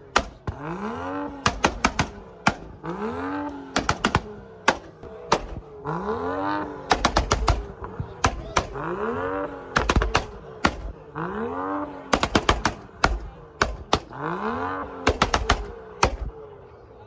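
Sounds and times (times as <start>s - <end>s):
exhaust pops and crackles: 0.0s - 5.8s, 6.5s - 11.3s, 12.1s - 16.4s
car engine revving: 0.0s - 16.7s.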